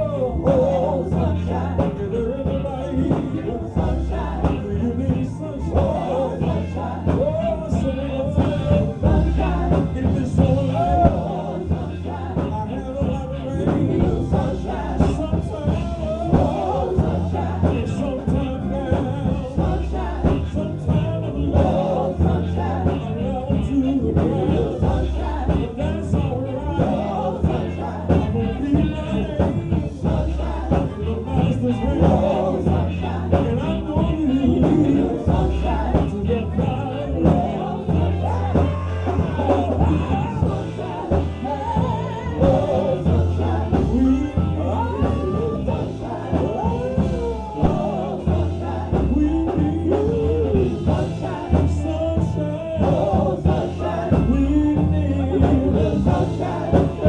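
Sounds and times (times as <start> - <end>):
gospel band playing: 0.0 - 57.0
person singing with backing voices: 0.0 - 57.0.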